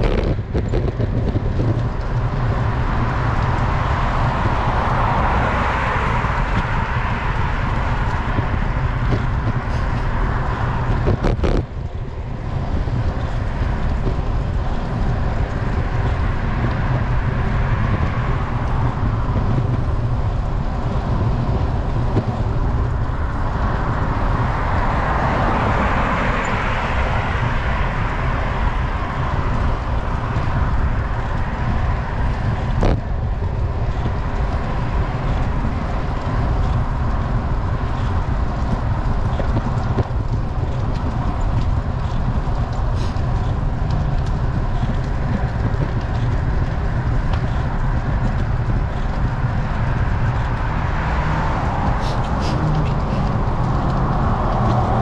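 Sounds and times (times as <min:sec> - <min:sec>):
passing car tyre noise: 0:00.0 - 0:55.0
wind buffeting microphone: 0:00.0 - 0:55.0.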